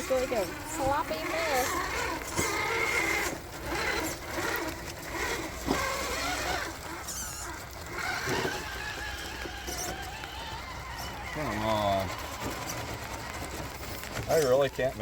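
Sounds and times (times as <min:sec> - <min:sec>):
rc truck motor whining: 0:00.0 - 0:15.0
tires spinning in mud: 0:00.0 - 0:15.0.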